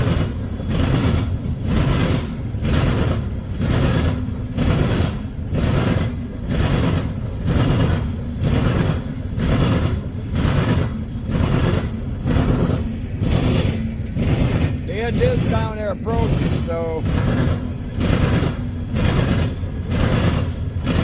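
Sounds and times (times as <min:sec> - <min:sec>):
low train rumble: 0:00.0 - 0:21.0
train wheels clattering over rail joints: 0:00.0 - 0:21.0.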